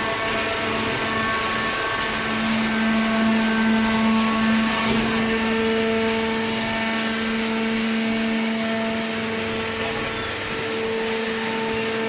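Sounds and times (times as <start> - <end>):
hydraulic power unit humming: 0.0 - 12.0
machine noise: 0.0 - 12.0.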